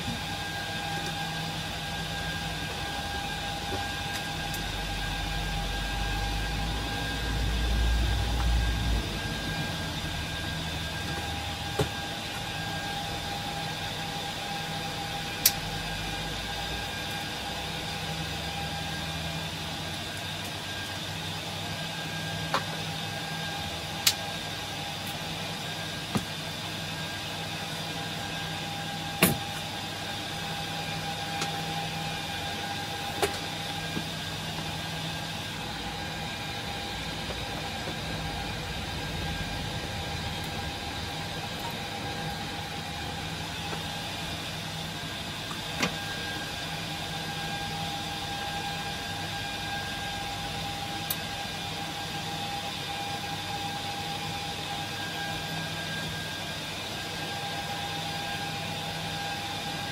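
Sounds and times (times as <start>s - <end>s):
server cooling fans whirring: 0.0s - 59.9s.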